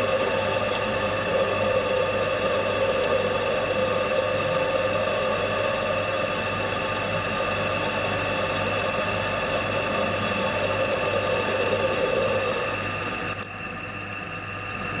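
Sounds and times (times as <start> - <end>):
milling machine drilling: 0.0 - 15.0.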